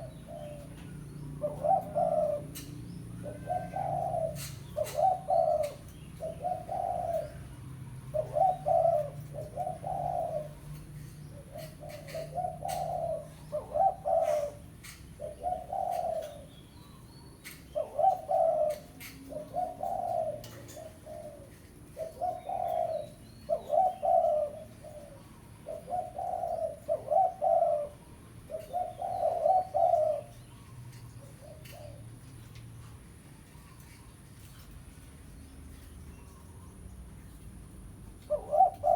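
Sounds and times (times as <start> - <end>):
dove cooing: 0.0 - 34.7, 38.0 - 38.9.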